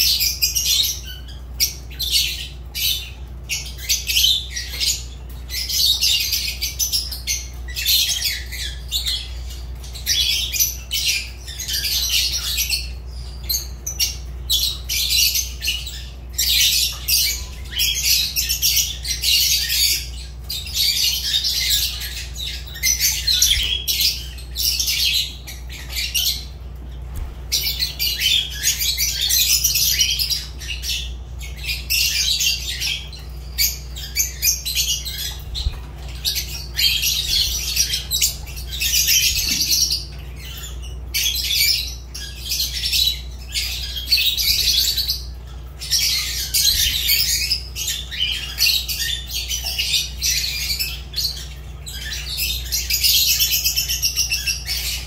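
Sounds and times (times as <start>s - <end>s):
lovebirds chattering and squawking: 0.0s - 55.0s.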